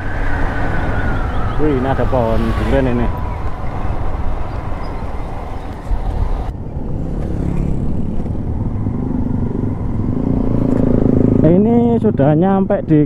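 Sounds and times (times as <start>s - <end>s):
motorcycle engine rumble: 0.0s - 13.0s
road noise: 0.0s - 13.0s.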